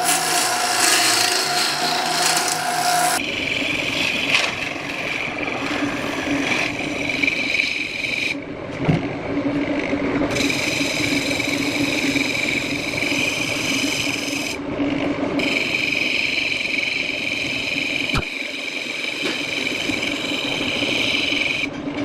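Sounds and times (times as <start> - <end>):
turning tool cutting wood: 0.0 - 8.4, 10.3 - 14.6, 15.4 - 21.7
wood lathe humming: 0.0 - 8.4, 9.6 - 21.8.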